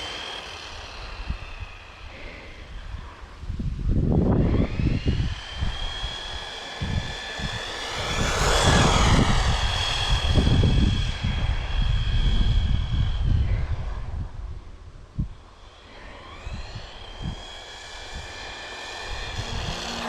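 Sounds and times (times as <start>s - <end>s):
toy car electric motor whining: 0.0s - 3.0s, 4.3s - 13.5s, 15.6s - 20.0s.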